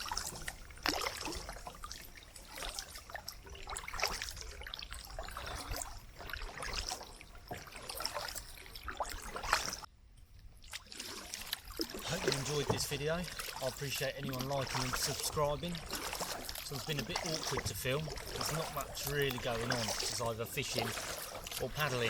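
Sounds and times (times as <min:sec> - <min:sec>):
water dripping off paddle: 0:00.0 - 0:09.9, 0:10.5 - 0:22.0.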